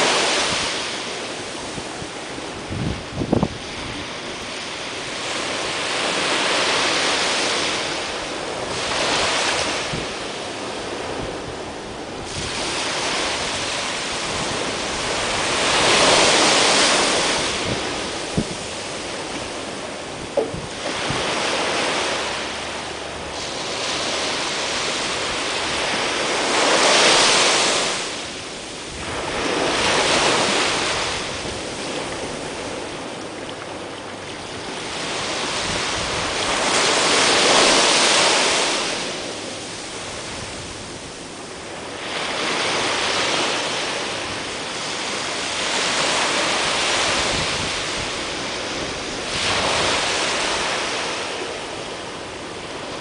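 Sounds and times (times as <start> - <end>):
waves washing up a beach: 0.0 - 53.0.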